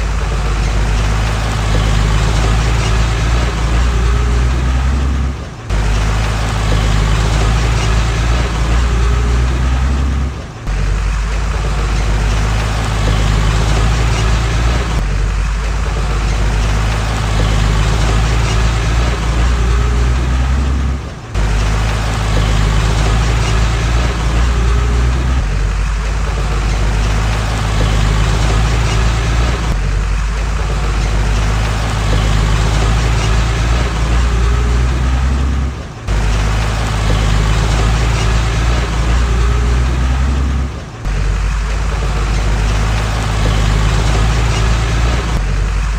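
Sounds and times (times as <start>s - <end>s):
diesel engine rumbling: 0.0s - 45.9s.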